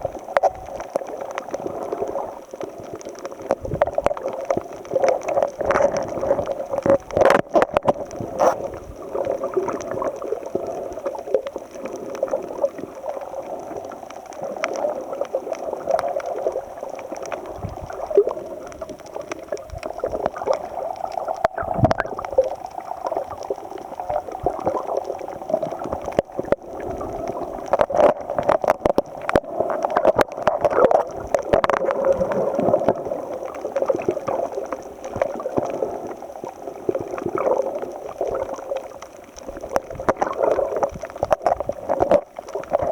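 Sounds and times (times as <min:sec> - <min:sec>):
water gurgling and sloshing: 0:00.0 - 0:42.9.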